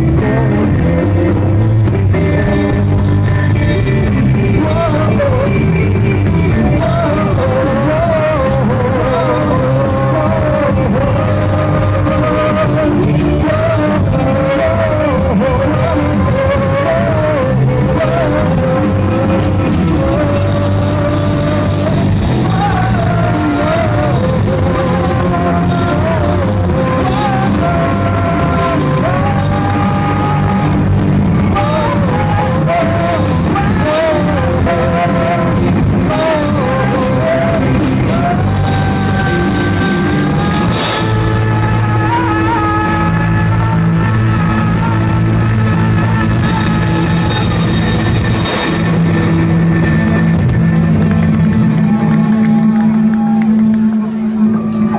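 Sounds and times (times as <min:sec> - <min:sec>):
drum kit: 0:00.0 - 0:53.9
bass guitar: 0:00.0 - 0:54.9
electric guitars: 0:00.0 - 0:54.9.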